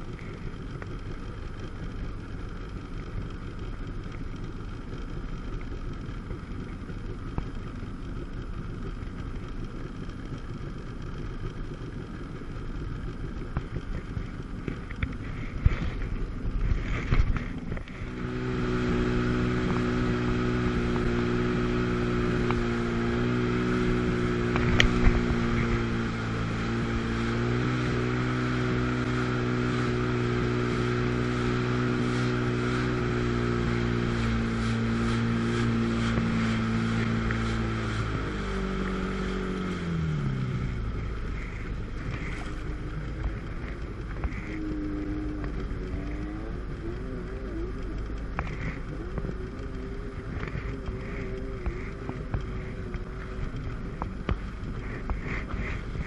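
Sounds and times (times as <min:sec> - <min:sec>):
jet ski engine running: 0:00.0 - 0:56.0.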